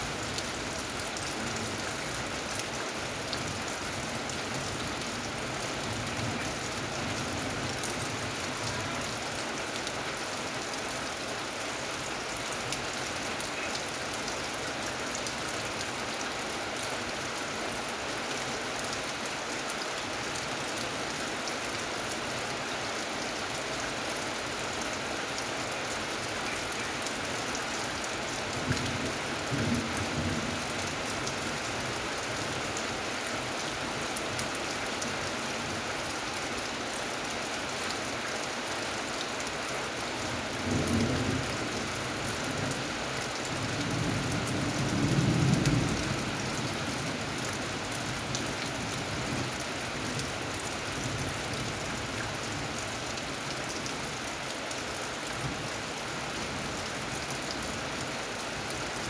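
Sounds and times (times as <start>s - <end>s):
rain on metal roof: 0.0s - 59.0s.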